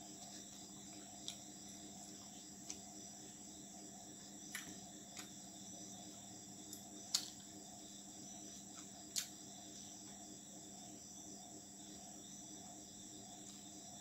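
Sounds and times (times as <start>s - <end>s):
crickets chirping: 0.0s - 14.0s
low electrical hum: 0.0s - 14.0s.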